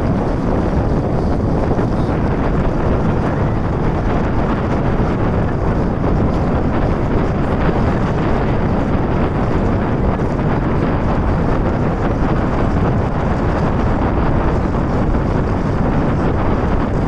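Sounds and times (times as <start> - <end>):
boat rushing across water: 0.0 - 17.0
wind buffeting microphone: 0.0 - 17.0.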